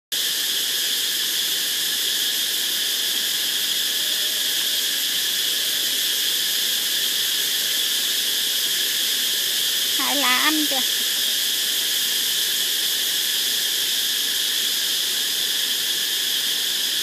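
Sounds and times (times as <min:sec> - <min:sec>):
insects droning: 0:00.2 - 0:17.0.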